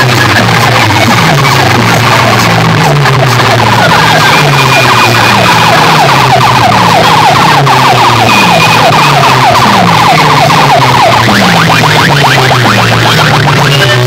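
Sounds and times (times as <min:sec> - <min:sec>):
siren-like falling sweeps: 0:00.0 - 0:14.0.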